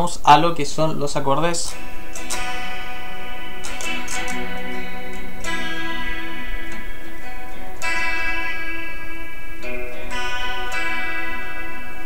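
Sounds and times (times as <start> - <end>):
electric guitar chord picked: 1.6 - 12.0.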